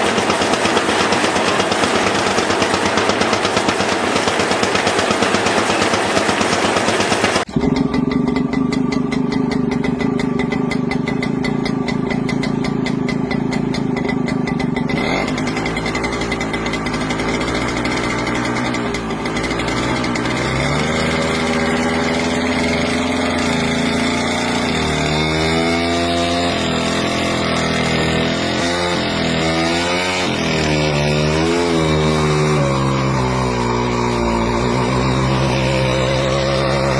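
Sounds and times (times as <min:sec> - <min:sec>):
tractor engine revving: 0:00.0 - 0:36.9.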